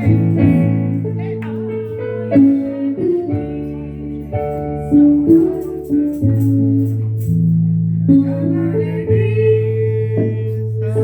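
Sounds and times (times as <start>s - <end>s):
bass chords: 0.0s - 11.0s
guitar chords: 0.0s - 11.0s.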